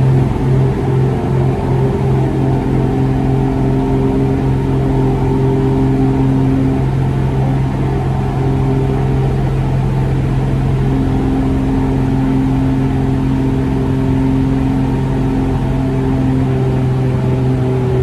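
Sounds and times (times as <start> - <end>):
plane engine and propeller droning: 0.0 - 18.0.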